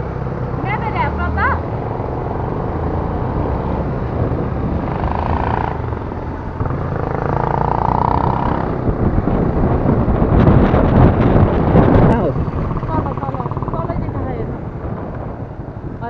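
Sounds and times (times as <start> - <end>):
road and wind noise: 0.0 - 16.0
scooter engine running: 0.0 - 16.0.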